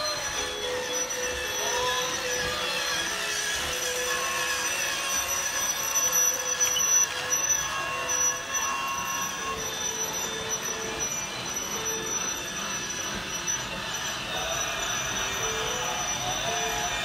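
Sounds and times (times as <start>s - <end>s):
toy train motor whirring: 0.0s - 17.0s
toy train wheels on track: 0.0s - 17.0s.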